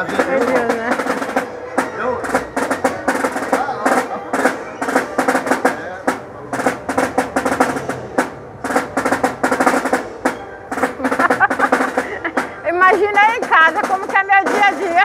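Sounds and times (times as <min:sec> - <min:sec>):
snare drum rolls: 0:00.0 - 0:15.0.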